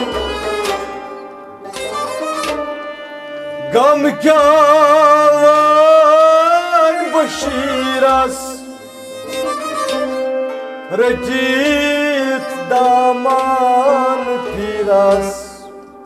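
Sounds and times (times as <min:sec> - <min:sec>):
bowed sarangi: 0:00.0 - 0:16.0
harmonium: 0:00.0 - 0:16.0
plucked rabab: 0:00.0 - 0:16.0.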